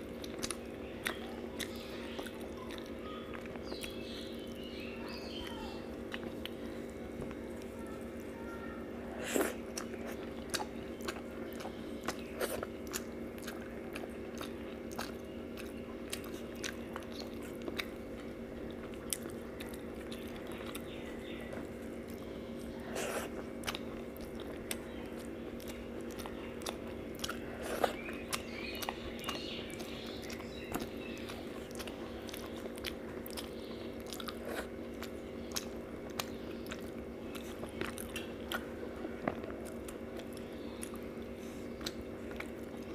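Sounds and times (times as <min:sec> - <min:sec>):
person chewing with mouth clicks: 0:00.0 - 0:04.6, 0:06.0 - 0:06.6, 0:09.1 - 0:42.9
steady low hum: 0:00.0 - 0:42.9.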